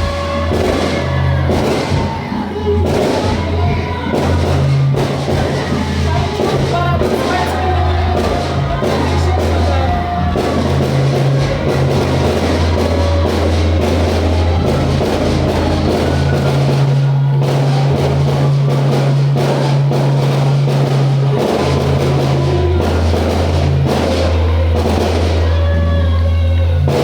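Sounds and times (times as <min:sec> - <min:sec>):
music with heavy bass and drums: 0:00.0 - 0:27.0.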